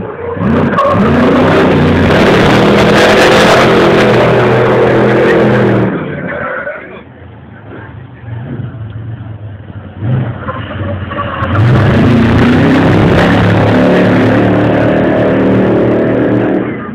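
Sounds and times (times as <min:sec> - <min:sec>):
race vehicle engine revving: 0:00.0 - 0:07.0, 0:07.6 - 0:16.9.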